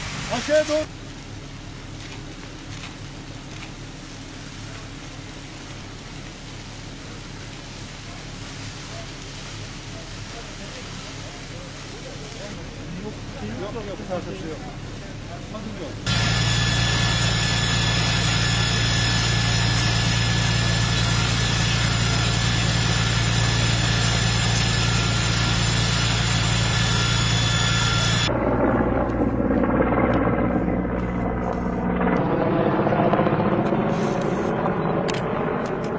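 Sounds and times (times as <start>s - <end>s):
engine drone with whining tones: 0.8s - 35.9s.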